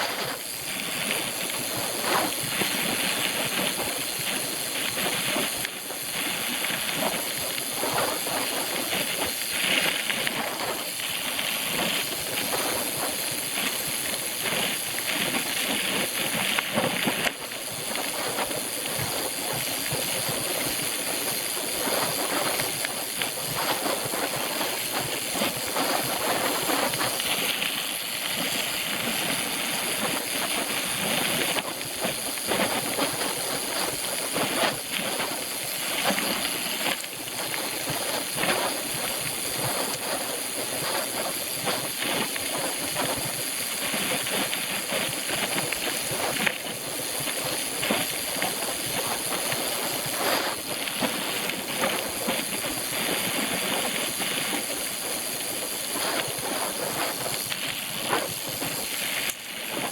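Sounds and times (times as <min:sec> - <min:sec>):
bicycle rattling: 0:00.0 - 0:59.9
bicycle tyre noise: 0:00.0 - 0:59.9
wind: 0:00.0 - 0:59.9.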